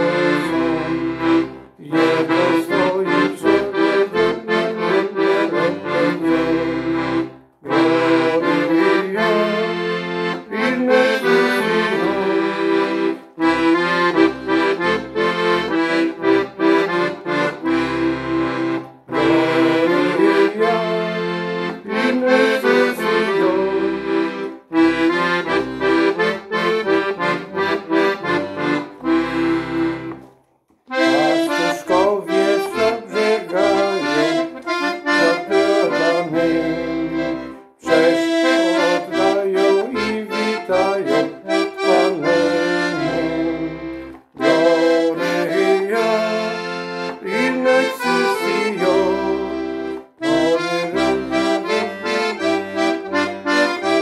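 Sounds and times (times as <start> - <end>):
accordion melody: 0.0 - 54.0.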